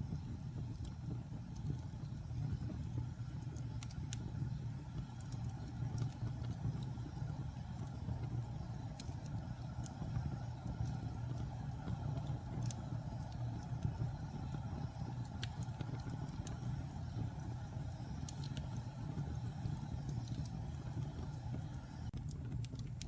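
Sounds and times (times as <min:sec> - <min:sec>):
campfire crackling and popping: 0:00.0 - 0:23.0
low fire rumble: 0:00.0 - 0:23.0.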